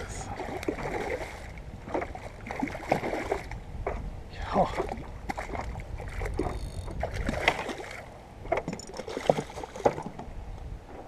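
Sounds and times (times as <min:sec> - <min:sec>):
water splashing around board: 0:00.0 - 0:10.4
wind rumble on microphone: 0:00.0 - 0:11.0.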